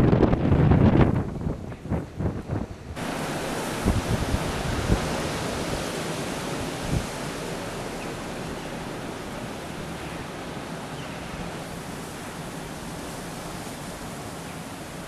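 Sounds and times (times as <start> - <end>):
blizzard wind hiss: 0.0 - 15.0
wind buffeting microphone: 0.0 - 15.0.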